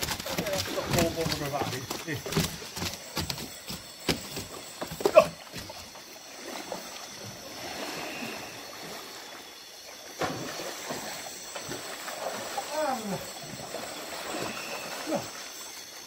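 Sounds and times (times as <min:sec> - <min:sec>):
water splashing: 0:00.0 - 0:16.0.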